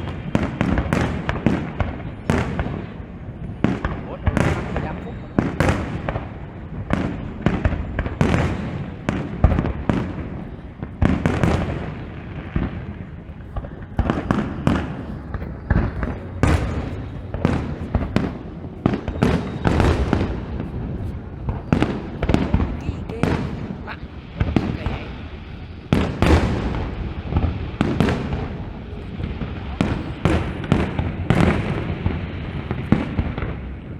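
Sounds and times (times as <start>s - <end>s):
fireworks bangs and booms: 0.0s - 33.9s.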